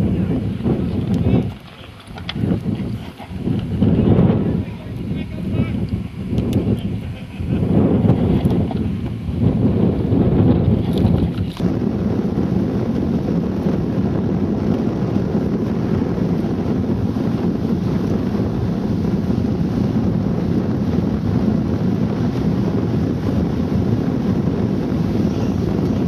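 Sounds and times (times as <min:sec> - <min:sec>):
wind blowing across microphone: 0:00.0 - 0:26.0.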